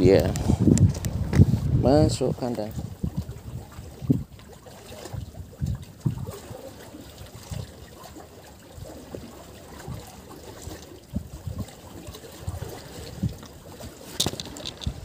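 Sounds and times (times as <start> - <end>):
sea water sloshing and trickling: 0.0 - 15.0.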